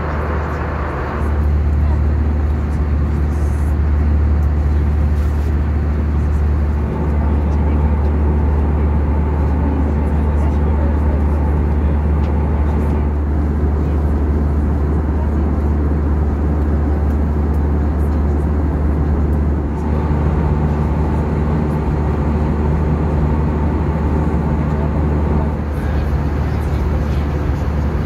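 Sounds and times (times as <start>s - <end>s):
airliner cabin engine hum: 0.0s - 28.0s.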